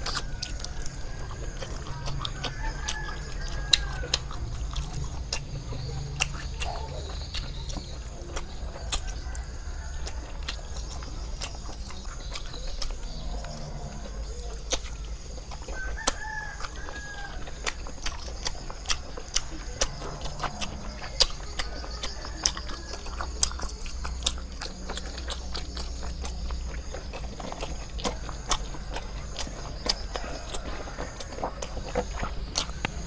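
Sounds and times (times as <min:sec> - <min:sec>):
chewing and lip-smacking: 0:00.0 - 0:33.0
chicken clucking: 0:00.0 - 0:33.0.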